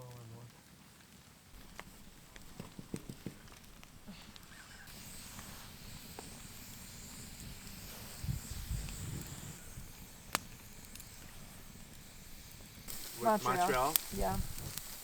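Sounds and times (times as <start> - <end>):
meat sizzling on a grill: 1.6 - 15.0.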